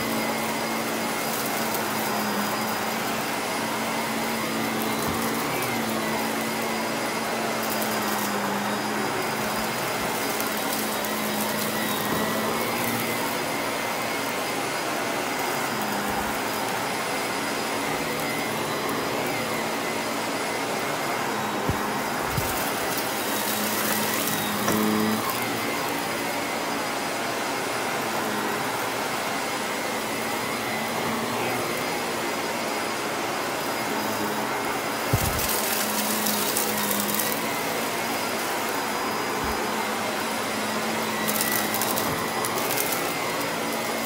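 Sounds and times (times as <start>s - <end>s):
vacuum cleaner running: 0.0s - 44.0s.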